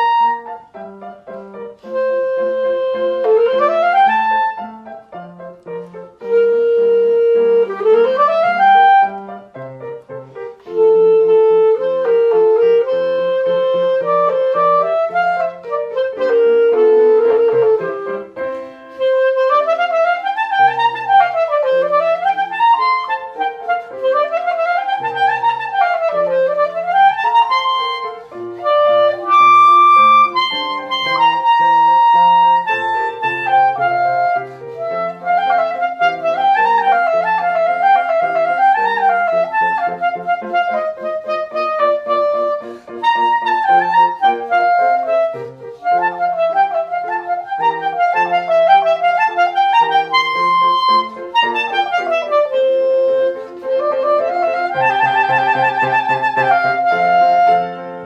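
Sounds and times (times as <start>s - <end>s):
clarinet playing lively melody: 0.0s - 58.0s
held accompaniment notes: 0.0s - 58.0s.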